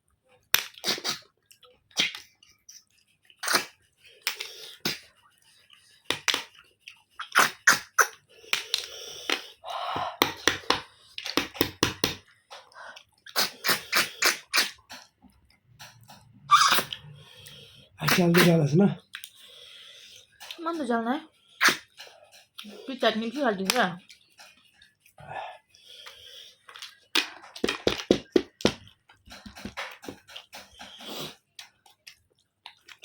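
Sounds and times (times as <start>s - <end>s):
sucking and clicking while eating: 0.3s - 33.0s.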